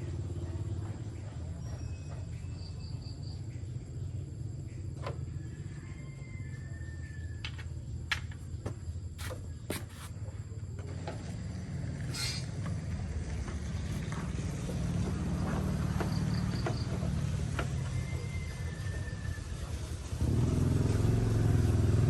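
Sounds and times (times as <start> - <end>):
vehicle engine running: 0.0 - 5.9, 7.4 - 22.0.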